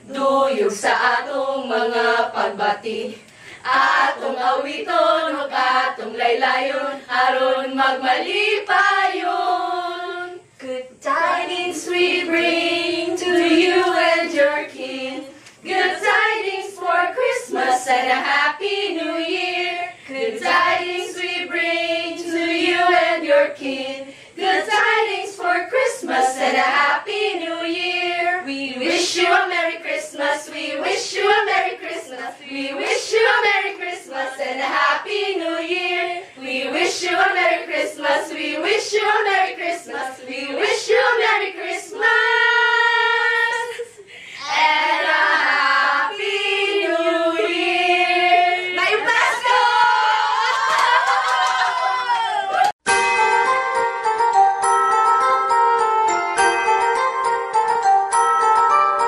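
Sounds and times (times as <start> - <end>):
women singing a carol: 0.0 - 50.5.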